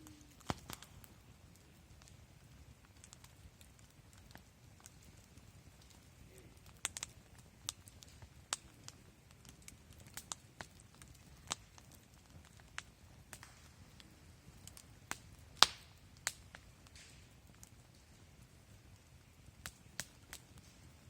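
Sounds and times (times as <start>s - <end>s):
campfire crackling and popping: 0.0s - 21.0s
low steady hiss: 0.0s - 21.0s.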